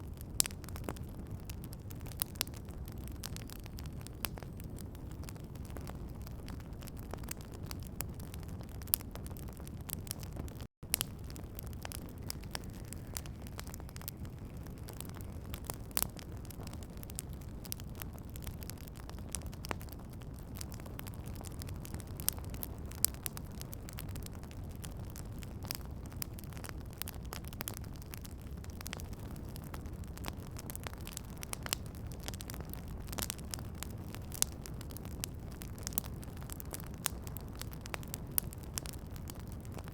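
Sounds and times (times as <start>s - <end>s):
campfire crackling: 0.0s - 39.9s
sharp snaps and pops of fire: 0.0s - 39.9s.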